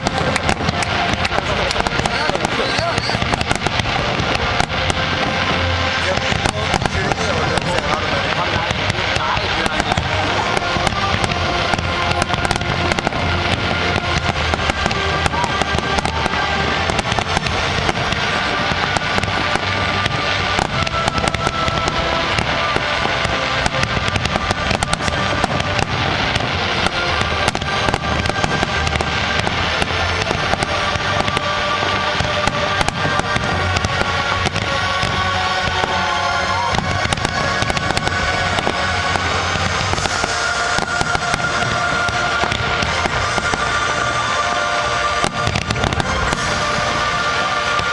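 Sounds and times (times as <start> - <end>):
fireworks crackling and popping: 0.0 - 47.9
music playing: 0.0 - 47.9.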